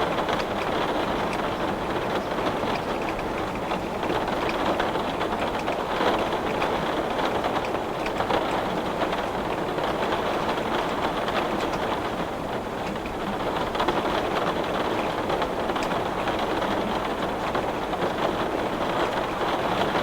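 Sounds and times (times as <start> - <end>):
heavy rain on window glass: 0.0 - 20.0.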